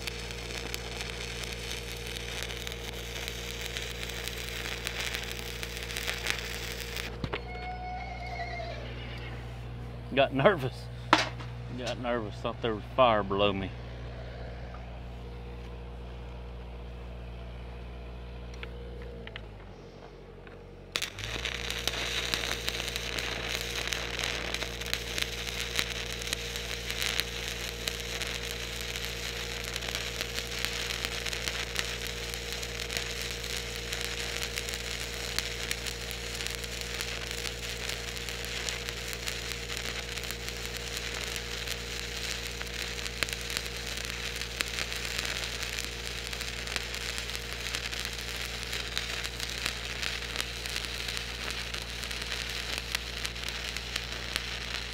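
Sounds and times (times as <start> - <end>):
welding arc crackling and sizzling: 0.0 - 8.8, 9.5 - 17.2, 20.9 - 54.9
welder engine humming: 0.0 - 54.9.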